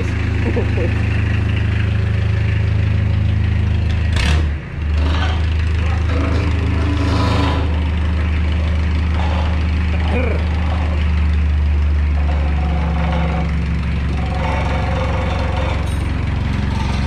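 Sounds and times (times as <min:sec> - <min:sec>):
engine idling with deep drone: 0:00.0 - 0:17.0.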